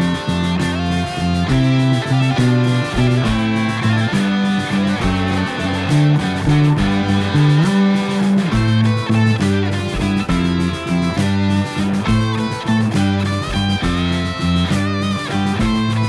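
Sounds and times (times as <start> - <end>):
electric guitars: 0.0 - 16.0
fingerpicked electric bass: 0.0 - 16.0
rock song: 0.0 - 16.0.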